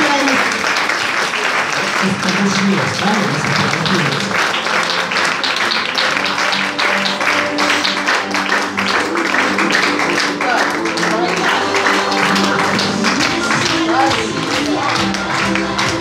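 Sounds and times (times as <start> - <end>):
applause: 0.0 - 16.0
rhythmic background music: 0.0 - 16.0.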